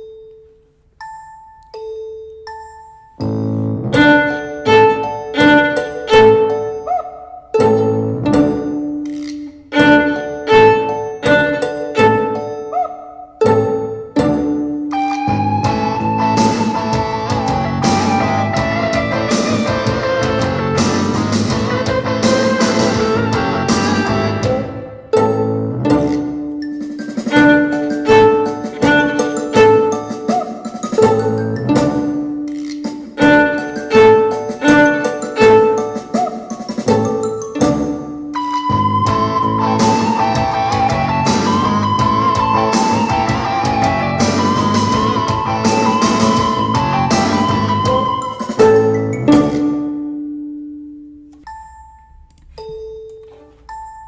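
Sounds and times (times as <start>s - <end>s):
pizzicato string music: 2.4s - 54.0s.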